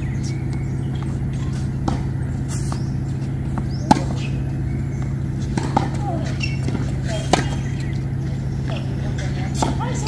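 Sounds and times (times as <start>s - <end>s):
steady low hum: 0.0s - 10.0s
tennis balls hit by racquets: 0.0s - 10.0s.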